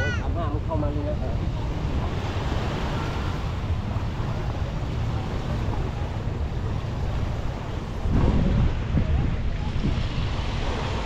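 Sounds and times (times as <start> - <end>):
surf washing on beach: 0.0 - 11.0
wind buffeting microphone: 0.0 - 11.0.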